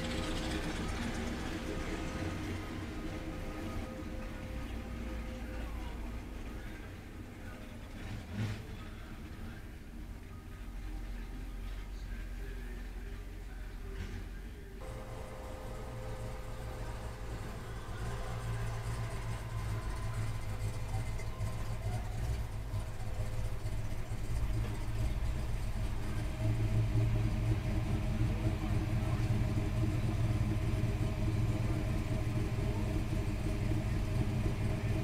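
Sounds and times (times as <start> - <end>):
car engines idling: 0.0 - 35.0.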